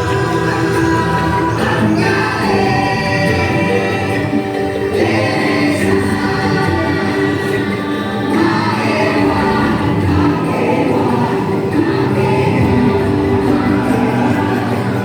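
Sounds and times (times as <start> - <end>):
choir singing: 0.0 - 15.0
musical accompaniment: 0.0 - 15.0.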